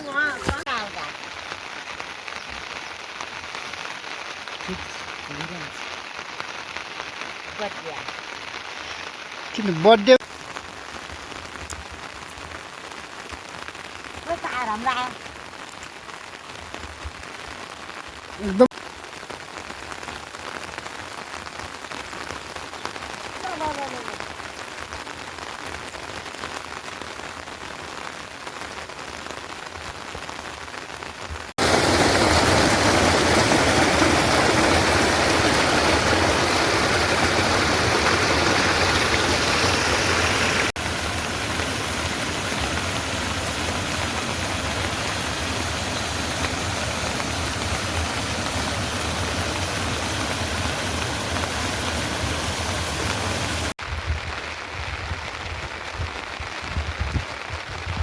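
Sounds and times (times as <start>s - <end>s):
rain falling steadily: 0.0s - 58.0s.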